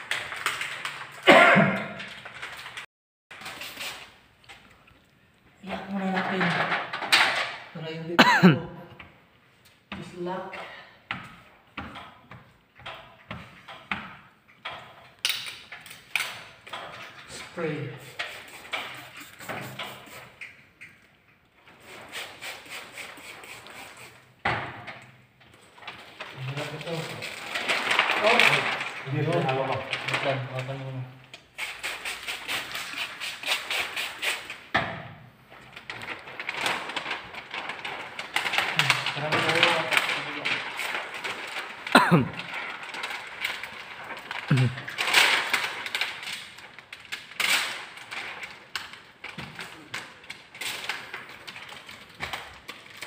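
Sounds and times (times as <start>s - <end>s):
plastic film rustling and crackling: 0.0s - 8.2s, 11.3s - 34.8s, 35.4s - 53.0s.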